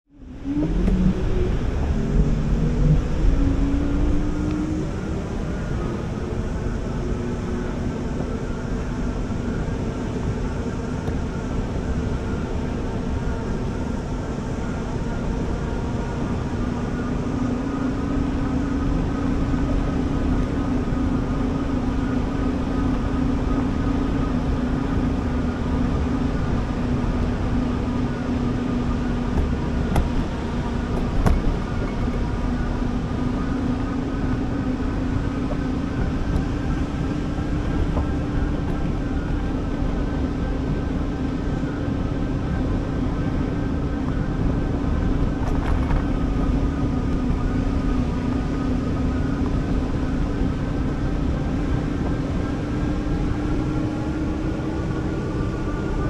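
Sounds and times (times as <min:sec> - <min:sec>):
wind rumble: 0:00.1 - 0:56.0.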